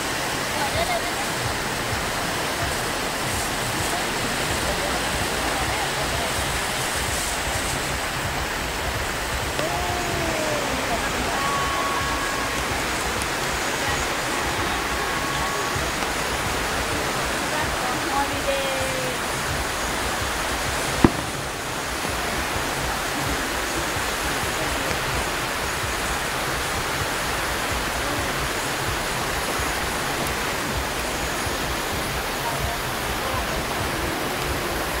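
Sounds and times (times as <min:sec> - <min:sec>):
steady rushing noise: 0:00.0 - 0:35.0.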